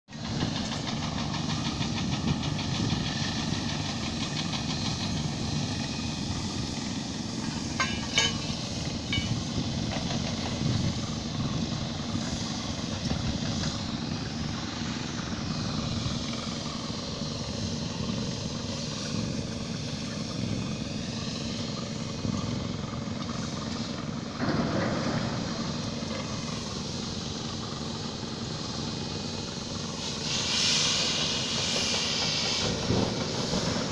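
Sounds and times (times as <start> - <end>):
heavy machinery engine drone: 0.1 - 33.9.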